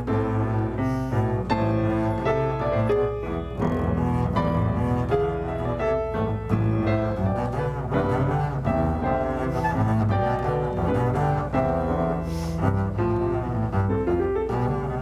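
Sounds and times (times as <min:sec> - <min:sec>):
low bass line: 0:00.0 - 0:15.0.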